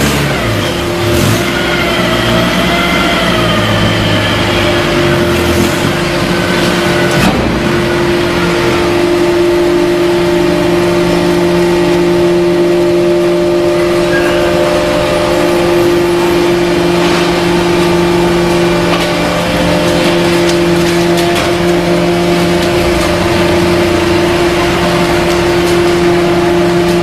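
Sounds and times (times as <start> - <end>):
hydraulic power unit humming: 0.0 - 27.0.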